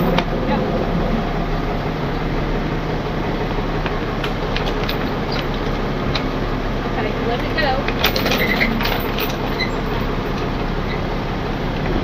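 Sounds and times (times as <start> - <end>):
tow truck engine running: 0.0 - 12.0.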